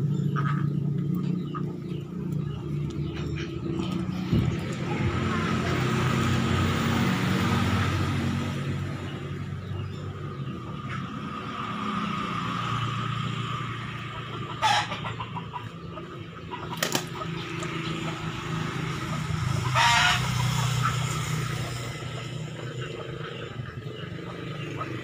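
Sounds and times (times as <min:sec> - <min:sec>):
chicken calls: 0:00.0 - 0:25.0.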